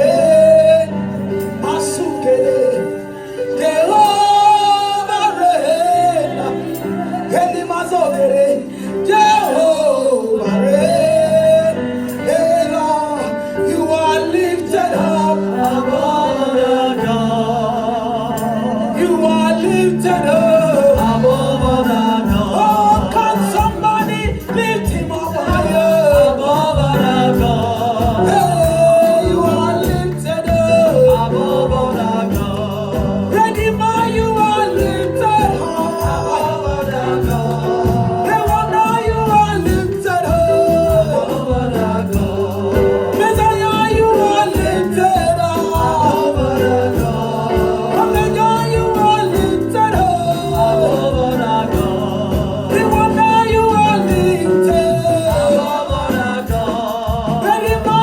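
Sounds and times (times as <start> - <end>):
gospel band playing: 0.0 - 58.0
person singing: 0.0 - 58.0.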